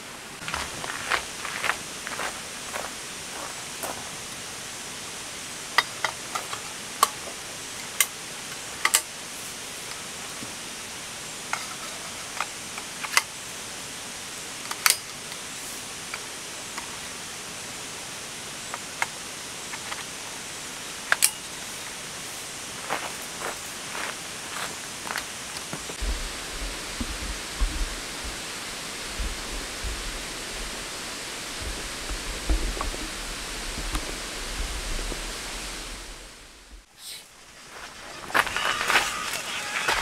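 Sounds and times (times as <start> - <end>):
steady high hiss: 0.0 - 40.0.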